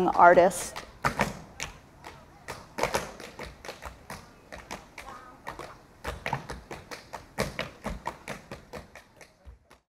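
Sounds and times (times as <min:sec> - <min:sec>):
sharp taps and knocks: 0:00.0 - 0:09.8.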